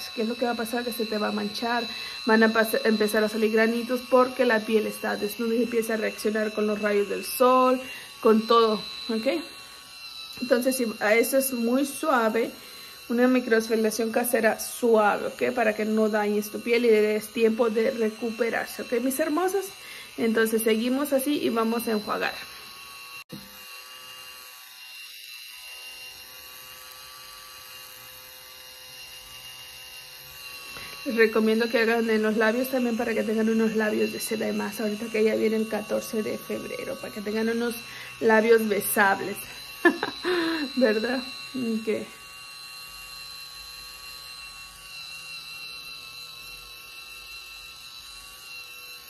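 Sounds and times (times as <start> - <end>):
cleansing brush motor whir: 0.0 - 49.0.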